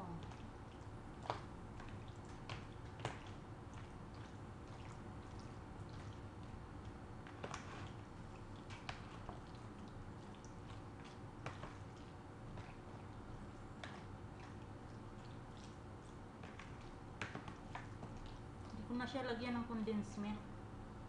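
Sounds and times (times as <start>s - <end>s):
wet squishing of creamy fruit: 0.0s - 19.2s.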